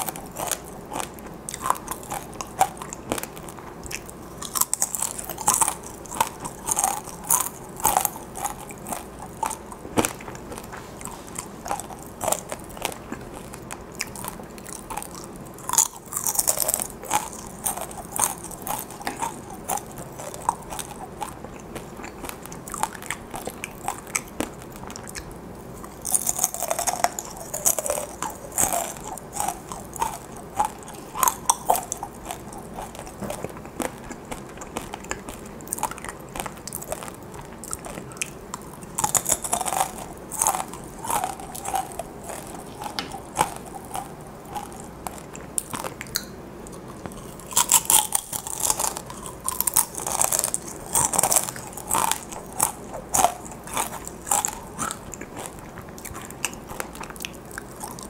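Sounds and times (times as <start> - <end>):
crunching fried chips: 0.0 - 58.0.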